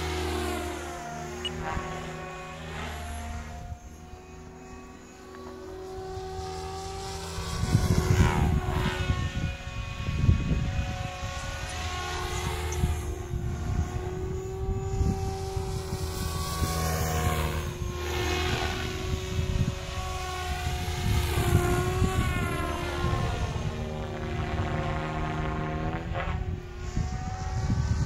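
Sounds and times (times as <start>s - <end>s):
model helicopter motor whine: 0.0s - 28.0s.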